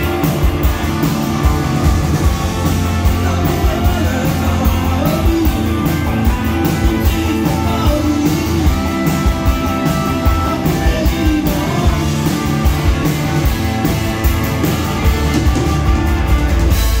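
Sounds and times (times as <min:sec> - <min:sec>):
bass guitar: 0:00.0 - 0:17.0
electric guitars: 0:00.0 - 0:17.0
live rock band: 0:00.0 - 0:17.0
steady drum beat: 0:00.0 - 0:17.0.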